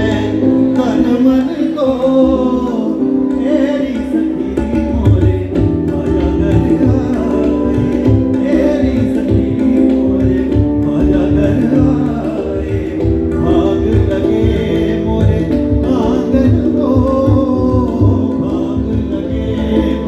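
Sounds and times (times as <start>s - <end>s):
held keyboard chords: 0.0s - 20.0s
man singing: 0.0s - 20.0s
tabla drum strokes: 0.0s - 20.0s.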